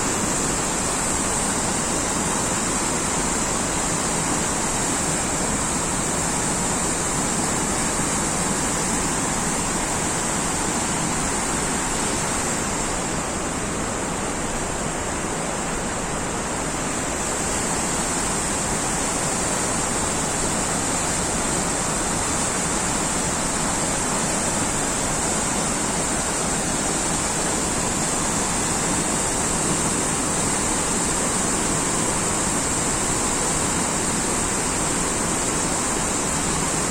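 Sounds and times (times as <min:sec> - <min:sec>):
flowing water rushing: 0:00.0 - 0:36.9.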